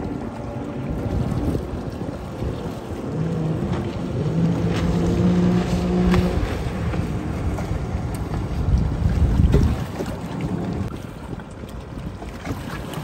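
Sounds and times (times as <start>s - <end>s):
motorboat engine hum: 0.0s - 13.0s.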